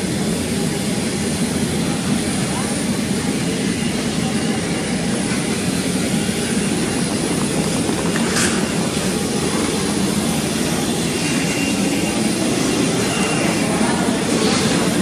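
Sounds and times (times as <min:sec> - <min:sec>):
jet aircraft roar: 0:00.0 - 0:15.0.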